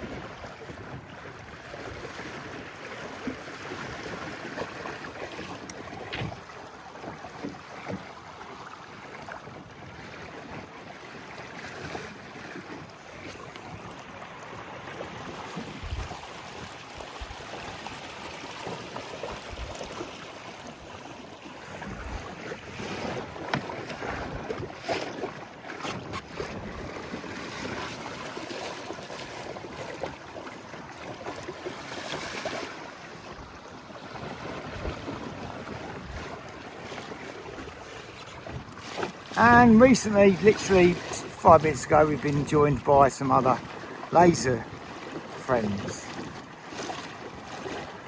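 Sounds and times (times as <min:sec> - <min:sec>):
water splashing against hull: 0:00.0 - 0:48.0.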